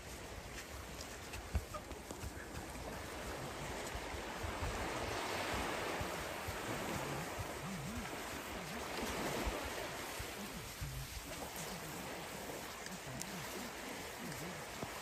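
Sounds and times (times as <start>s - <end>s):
waves washing onto sandy shore: 0.0s - 15.0s.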